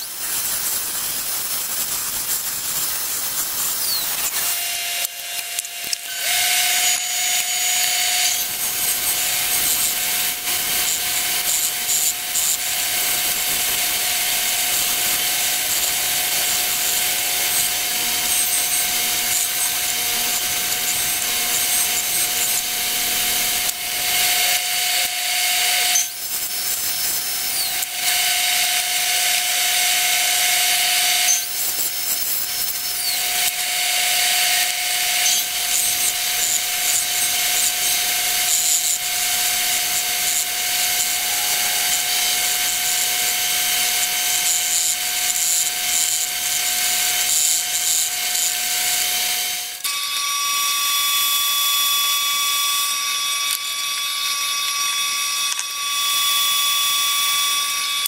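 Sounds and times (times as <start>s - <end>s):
knife blade grinding hiss: 0.0s - 50.6s
belt grinder whine: 0.0s - 58.0s.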